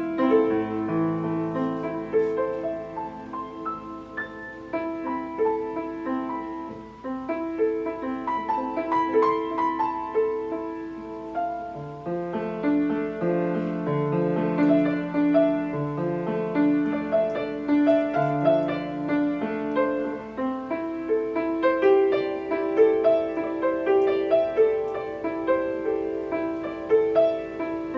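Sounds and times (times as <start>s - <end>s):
piano playing: 0.0s - 27.9s.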